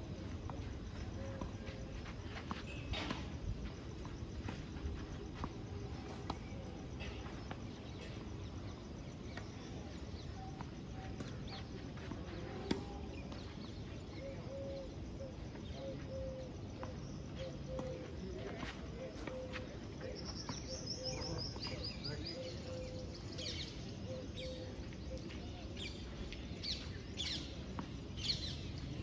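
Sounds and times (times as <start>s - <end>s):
open-air background noise: 0.0s - 29.0s.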